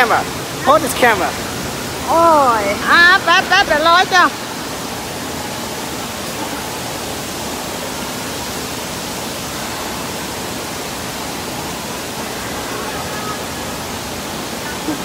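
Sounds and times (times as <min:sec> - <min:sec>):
echoing indoor pool din: 0:00.0 - 0:15.0
water rushing: 0:00.0 - 0:15.0.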